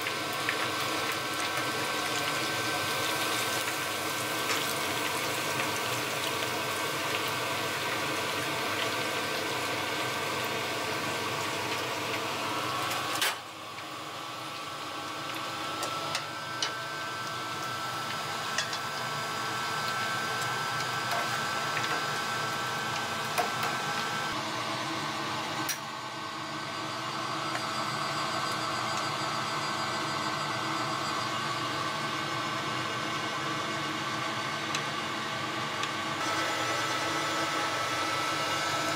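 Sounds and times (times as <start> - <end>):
hot oil sizzling and bubbling: 0.0 - 38.9.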